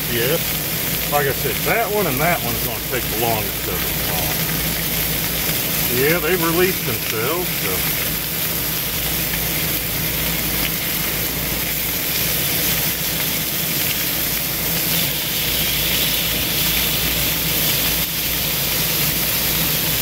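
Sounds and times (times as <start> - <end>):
chicken sizzling on a griddle: 0.0 - 20.0.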